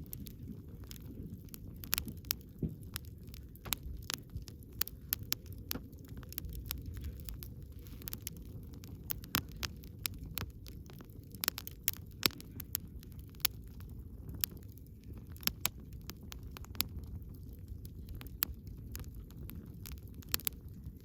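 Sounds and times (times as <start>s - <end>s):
campfire crackling: 0.0s - 21.0s
low rumble of flames: 0.0s - 21.0s.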